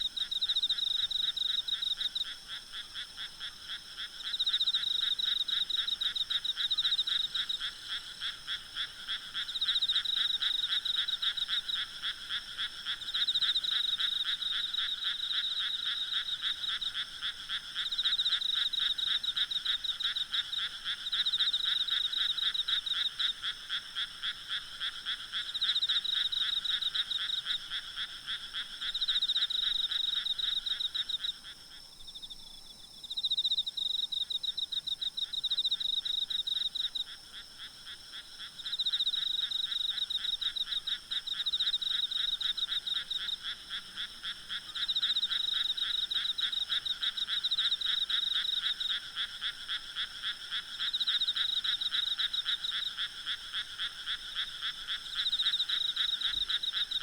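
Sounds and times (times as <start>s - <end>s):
frogs giving rattling calls: 0.0s - 32.3s, 33.0s - 57.0s.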